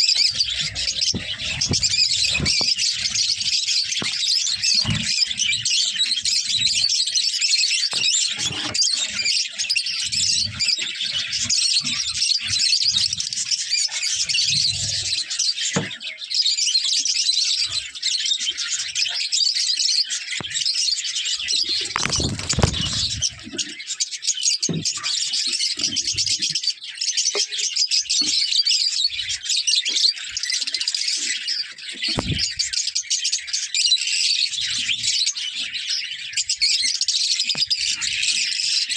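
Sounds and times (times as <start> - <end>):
lovebirds chattering and chirping: 0.0 - 38.9.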